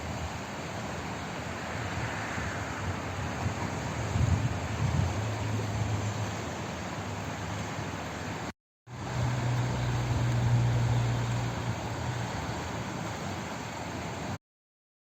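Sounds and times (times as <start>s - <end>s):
flowing water rushing: 0.0s - 14.4s.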